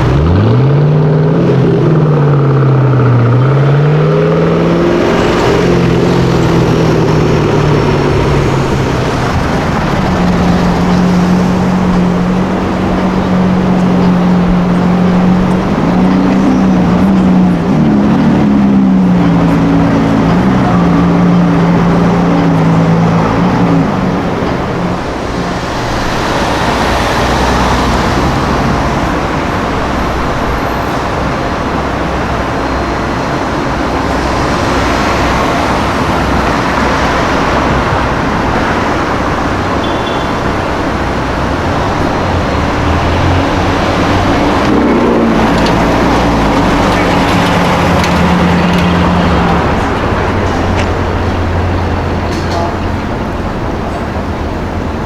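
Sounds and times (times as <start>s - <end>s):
cars driving by: 0.0s - 55.0s
engine steady hum: 0.0s - 55.0s.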